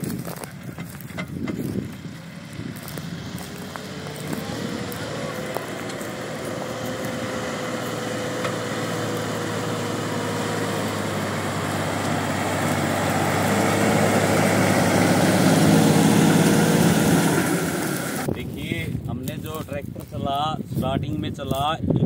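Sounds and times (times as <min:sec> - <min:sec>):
tractor diesel engine running: 0:00.0 - 0:21.7.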